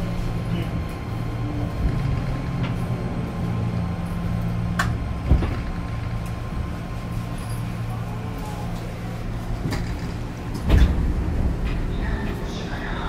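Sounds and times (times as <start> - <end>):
train car hum: 0.0 - 13.0.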